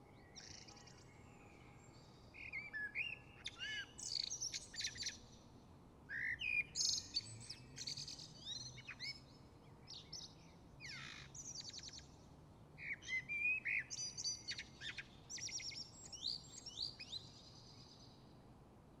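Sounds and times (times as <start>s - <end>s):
songbirds singing: 0.0s - 5.5s, 6.1s - 12.2s, 12.8s - 18.3s.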